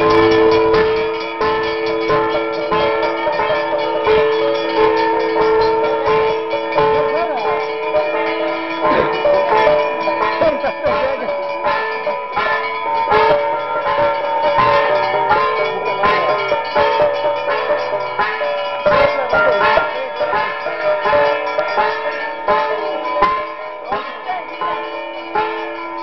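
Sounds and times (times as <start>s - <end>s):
drum strikes: 0.0s - 25.7s
metal bells ringing: 0.0s - 26.0s.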